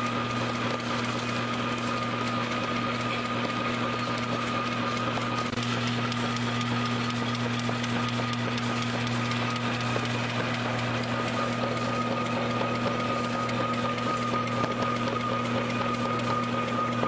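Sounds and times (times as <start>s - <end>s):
thin steady whine: 0.0s - 17.0s
machine mechanism clattering: 0.4s - 17.0s.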